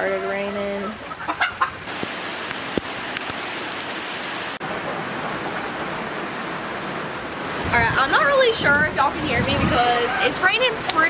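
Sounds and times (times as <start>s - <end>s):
hard rain on a roof: 0.0s - 11.0s.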